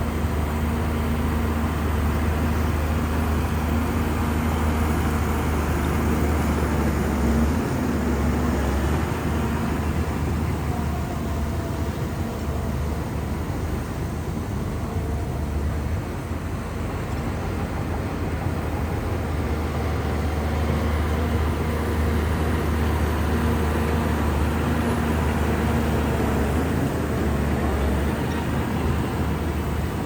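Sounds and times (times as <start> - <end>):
bulldozer diesel engine drone: 0.0 - 30.0.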